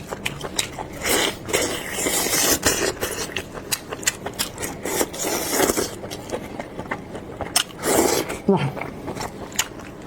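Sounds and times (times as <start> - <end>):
close chewing with wet smacks: 0.0 - 7.8, 8.7 - 10.0.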